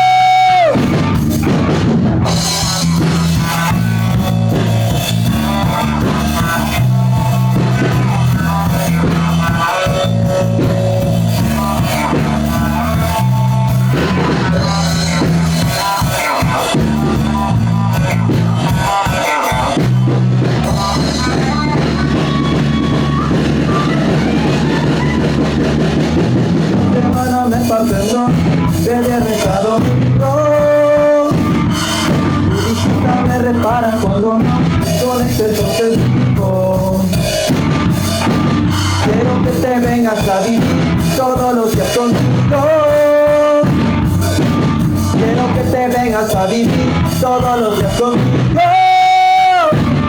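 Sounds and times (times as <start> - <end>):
instrumental rock music: 0.0 - 50.0.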